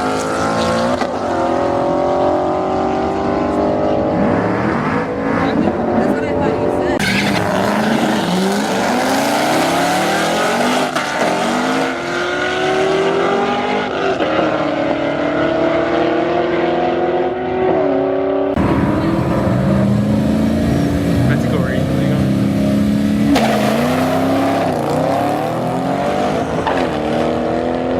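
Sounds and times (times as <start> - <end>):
deeper high-revving engine: 0.0 - 27.9
drag car engine at full throttle: 0.0 - 27.9.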